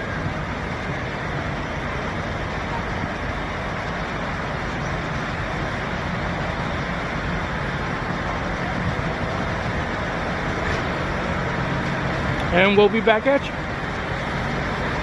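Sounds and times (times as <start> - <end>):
urban traffic rumble: 0.0 - 15.0.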